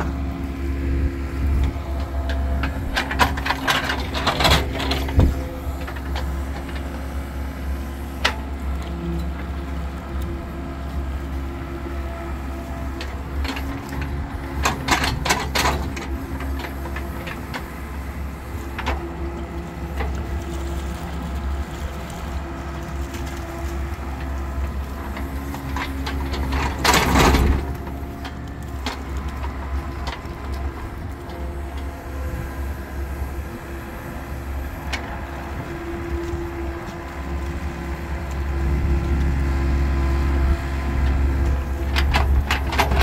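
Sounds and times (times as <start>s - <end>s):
excavator engine hum: 0.0s - 43.0s.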